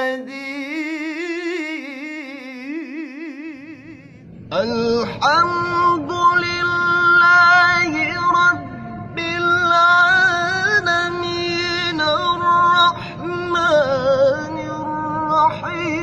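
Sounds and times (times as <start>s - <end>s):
man reciting melismatic chant: 0.0s - 16.0s.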